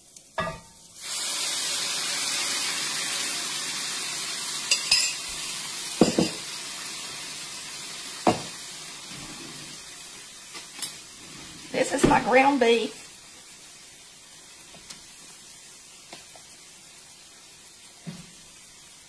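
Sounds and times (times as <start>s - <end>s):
sauce sizzling in a hot pan: 0.0s - 19.0s.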